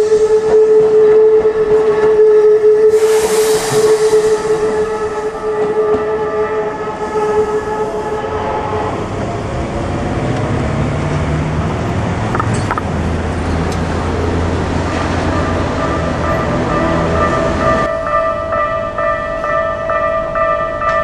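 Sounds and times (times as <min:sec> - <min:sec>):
level-crossing warning bell: 0:00.0 - 0:09.9, 0:14.0 - 0:21.0
train passing: 0:00.0 - 0:21.0
road traffic engines rumbling: 0:02.9 - 0:21.0.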